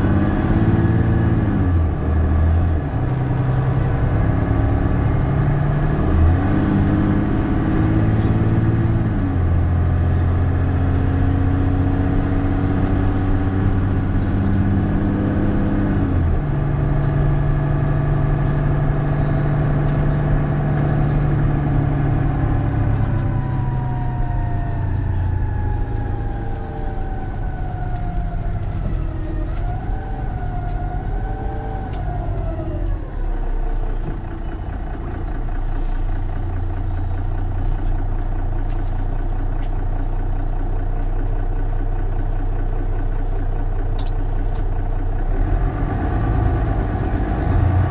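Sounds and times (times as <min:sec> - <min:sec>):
bus engine and gearbox: 0:00.0 - 0:47.9.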